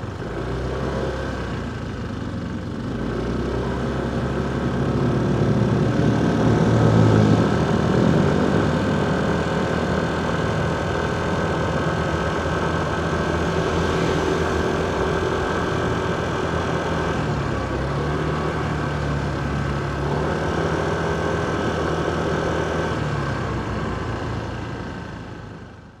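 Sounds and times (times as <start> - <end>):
road noise: 0.0 - 25.9
motorcycle engine running: 0.0 - 26.0
surrounding vehicles: 0.0 - 26.0.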